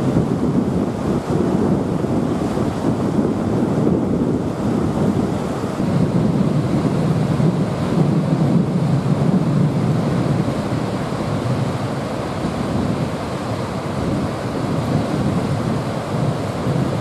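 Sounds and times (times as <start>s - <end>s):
water rushing over weir: 0.0s - 17.0s.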